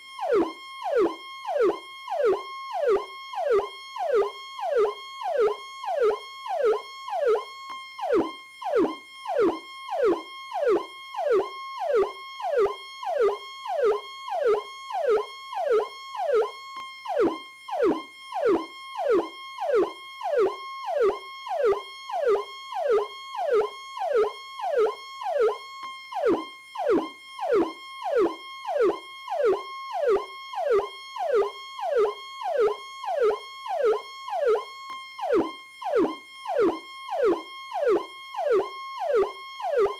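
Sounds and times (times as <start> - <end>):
police siren: 0.0 - 39.9.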